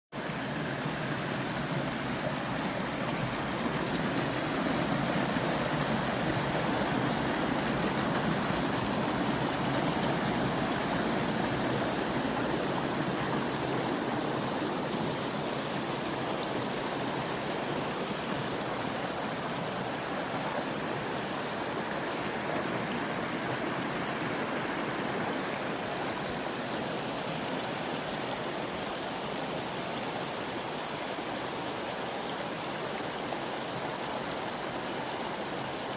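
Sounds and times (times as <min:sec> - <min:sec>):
stream water rushing: 0:00.1 - 0:35.9.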